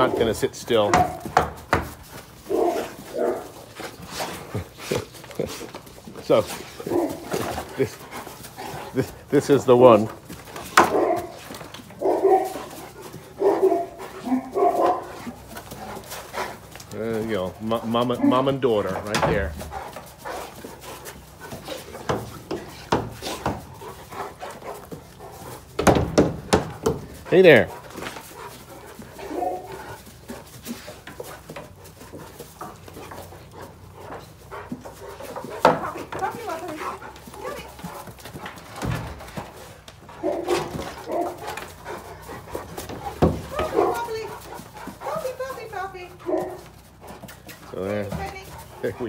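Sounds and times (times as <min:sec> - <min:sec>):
dogs barking: 0:00.0 - 0:05.5, 0:06.4 - 0:16.8, 0:17.6 - 0:49.0.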